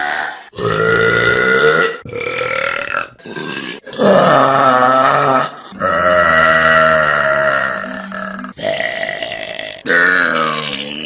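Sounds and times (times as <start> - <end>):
person burping loudly: 0.0 - 11.0.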